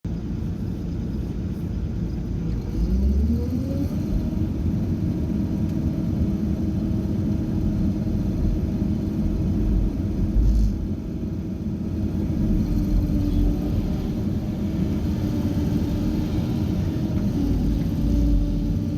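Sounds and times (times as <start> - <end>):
diesel engine rumbling: 0.1 - 18.9.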